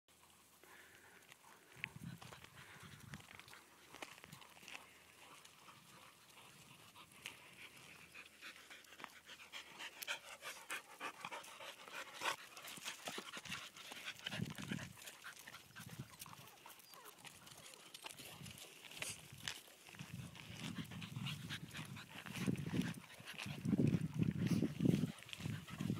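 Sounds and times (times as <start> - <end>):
dog panting: 0.2 - 25.9.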